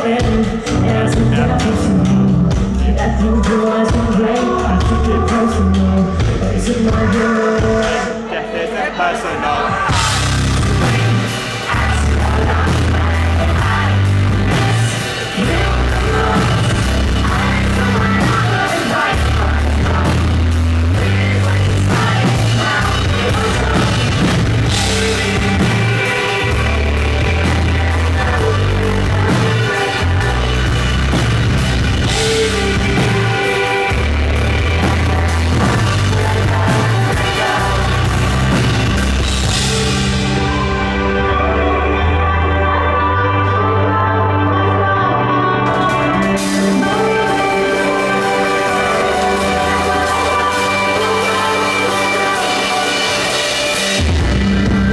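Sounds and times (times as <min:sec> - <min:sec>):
drum kit: 0:00.0 - 0:08.4, 0:09.4 - 0:54.9
live rock band playing: 0:00.0 - 0:54.9
pulsing bass line: 0:00.2 - 0:07.8, 0:09.5 - 0:54.9.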